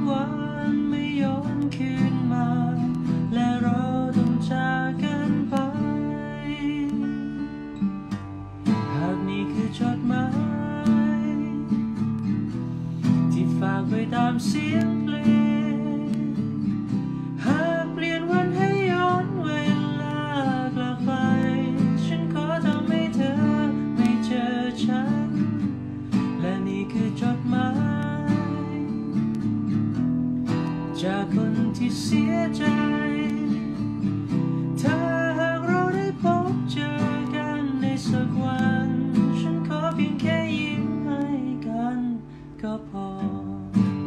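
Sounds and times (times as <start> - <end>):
man singing: 0.0 - 7.8, 8.7 - 12.3, 13.0 - 29.5, 30.9 - 44.0
strummed acoustic guitar: 0.0 - 44.0.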